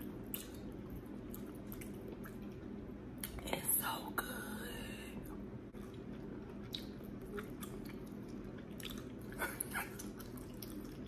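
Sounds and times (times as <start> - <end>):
soft chewing: 0.0 - 3.8, 5.1 - 11.0
low steady hum: 0.0 - 11.0.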